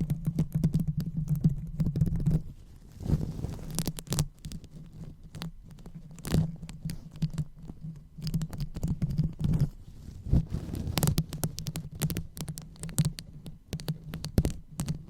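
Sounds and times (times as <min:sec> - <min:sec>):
fingers scratching on microphone: 0:00.0 - 0:15.0.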